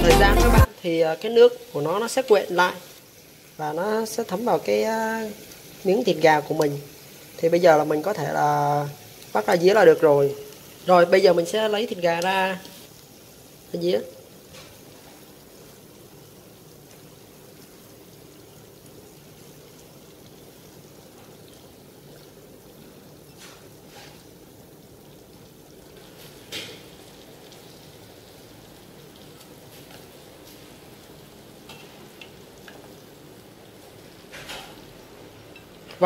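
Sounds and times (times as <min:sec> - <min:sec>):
glaze sizzling in a frying pan: 0:00.0 - 0:36.0.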